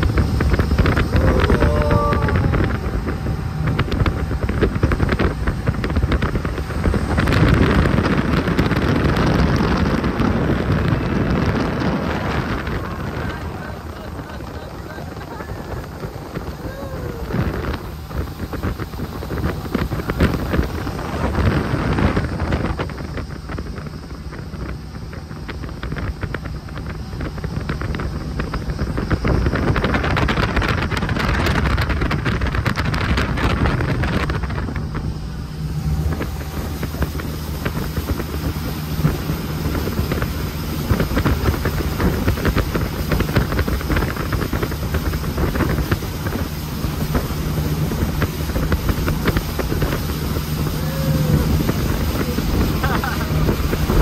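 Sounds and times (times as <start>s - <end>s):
jet boat engine running: 0.0s - 54.0s
rush of wind and water: 0.0s - 54.0s
wind buffeting microphone: 0.0s - 54.0s.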